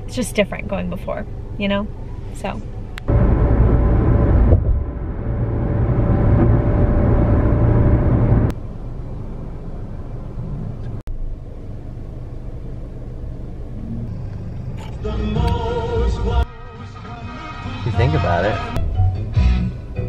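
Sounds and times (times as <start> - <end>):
faint steady drone: 0.0 - 17.0
car road and engine rumble: 0.0 - 20.0.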